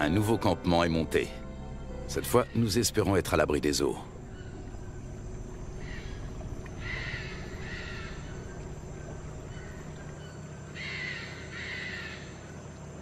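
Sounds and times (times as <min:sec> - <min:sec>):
bird calling: 0:01.6 - 0:12.6.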